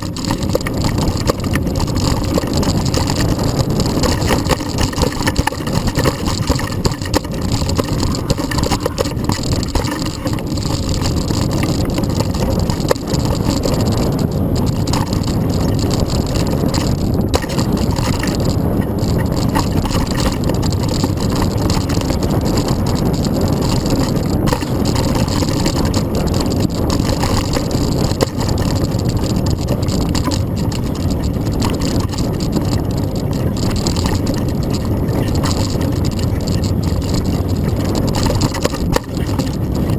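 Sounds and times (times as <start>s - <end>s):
bike knocking and rattling: 0.0s - 39.9s
bike tyres rumbling on dirt: 0.0s - 39.9s.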